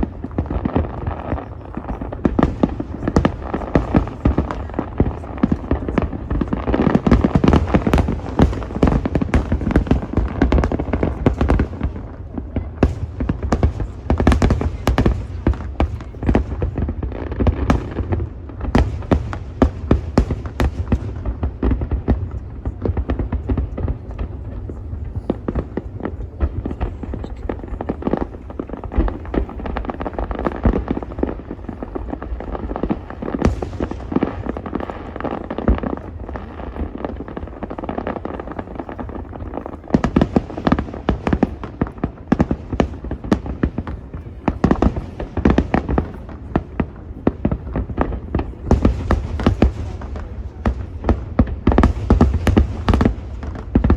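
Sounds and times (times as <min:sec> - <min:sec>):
fireworks crackling and bangs: 0:00.0 - 0:53.9.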